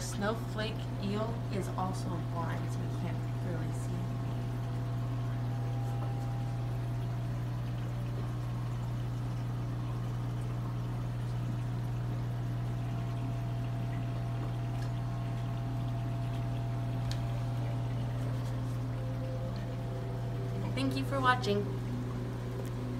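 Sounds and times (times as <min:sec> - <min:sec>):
aquarium equipment humming: 0:00.0 - 0:22.9
water pouring and trickling: 0:00.0 - 0:22.9.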